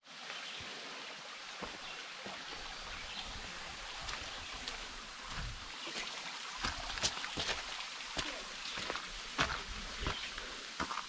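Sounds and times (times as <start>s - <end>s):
flowing creek: 0.0s - 11.0s.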